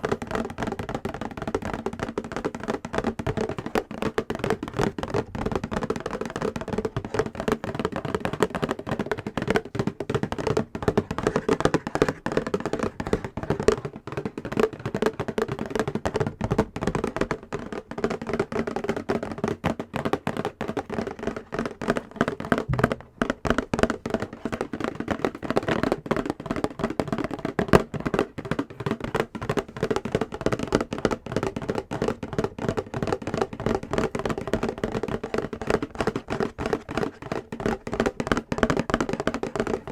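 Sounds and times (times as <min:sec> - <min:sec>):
fingernail tapping on a box: 0:00.1 - 0:39.9.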